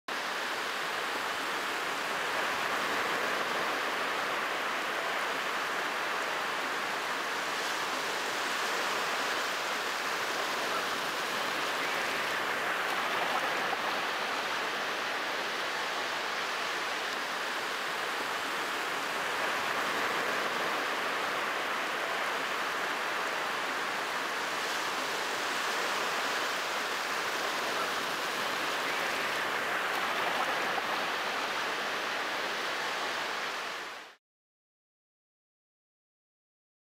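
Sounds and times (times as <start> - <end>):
surf washing onto beach: 0.1 - 34.1.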